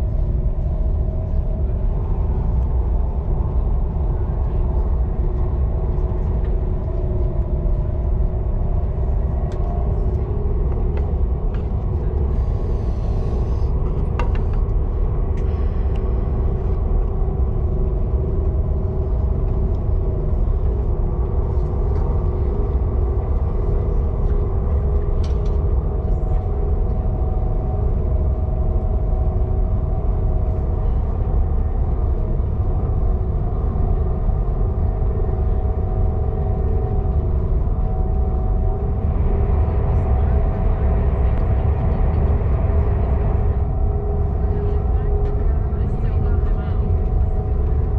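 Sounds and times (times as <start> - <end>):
constant hum: 0.0 - 47.9
train cabin deep rumble: 0.0 - 47.9.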